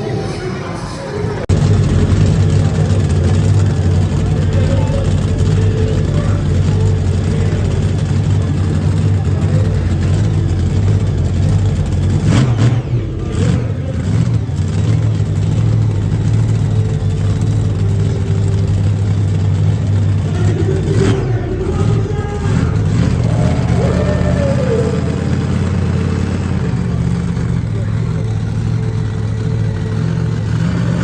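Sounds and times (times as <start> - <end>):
monster truck engine revving: 0.0 - 31.0.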